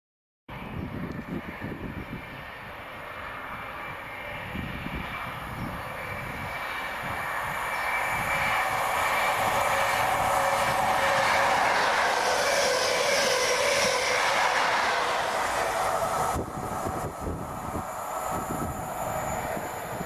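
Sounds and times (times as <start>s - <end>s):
diesel train engine: 0.5s - 20.0s
train wheels rushing on rail: 0.6s - 20.0s.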